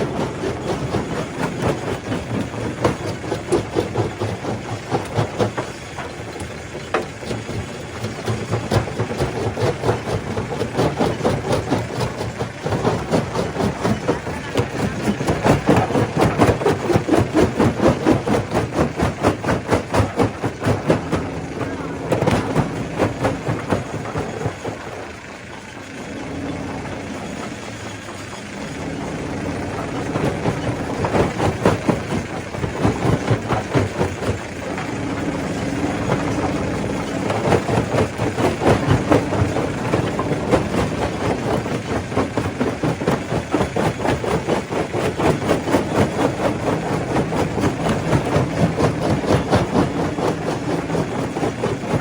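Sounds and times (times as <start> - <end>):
rock clattering in crusher: 0.0 - 25.1, 25.7 - 52.0
motor hum: 0.0 - 52.0.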